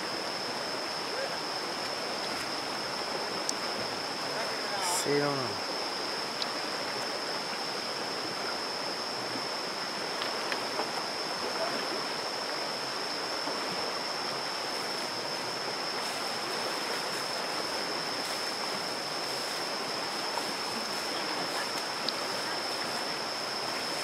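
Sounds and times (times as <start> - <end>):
river water running and splashing: 0.0 - 24.0
steady high-pitched whine: 0.0 - 24.0.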